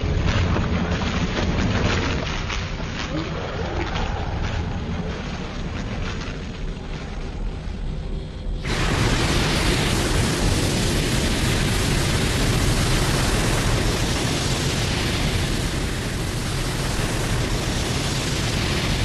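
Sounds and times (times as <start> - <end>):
rushing noise with deep rumble: 0.0 - 19.0.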